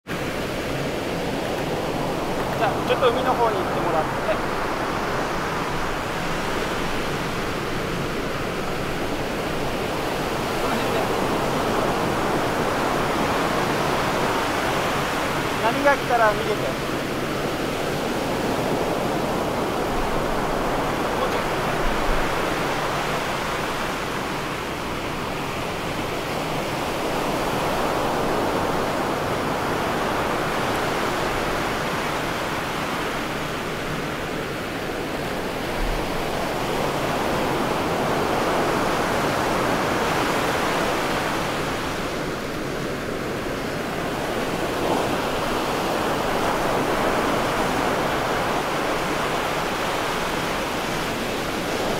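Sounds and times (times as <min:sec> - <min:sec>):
ocean surf on sandy beach: 0:00.0 - 0:51.9.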